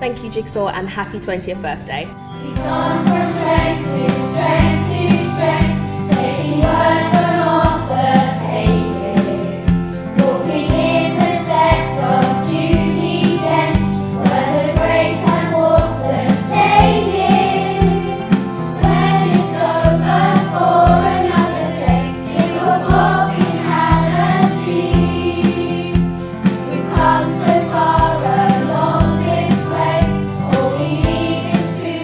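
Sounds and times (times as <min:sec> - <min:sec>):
children singing together: 0:02.4 - 0:32.0
backing track with steady beat: 0:02.6 - 0:32.0.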